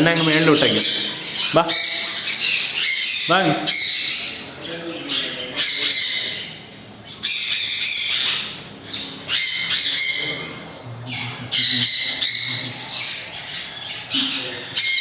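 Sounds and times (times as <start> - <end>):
parrots squawking harshly: 0.0 - 15.0.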